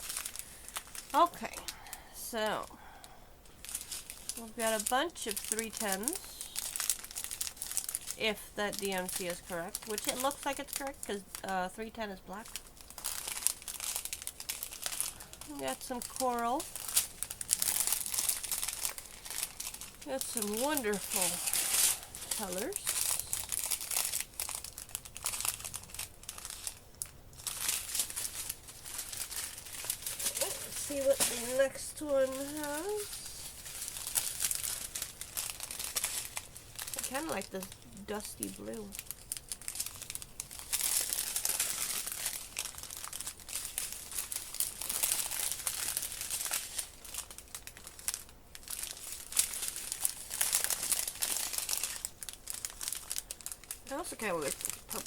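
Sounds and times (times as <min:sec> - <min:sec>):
plastic bags crinkling: 0:00.0 - 0:55.0.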